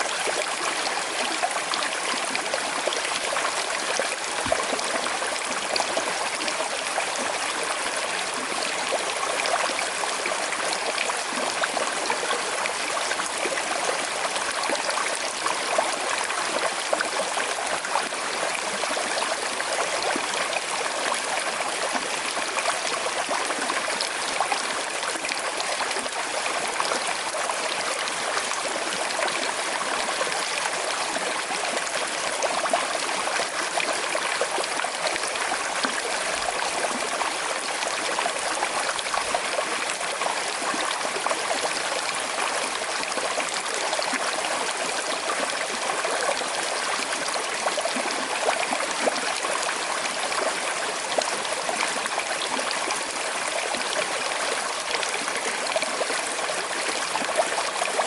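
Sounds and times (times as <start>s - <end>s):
river babbling over stones: 0.0s - 58.0s.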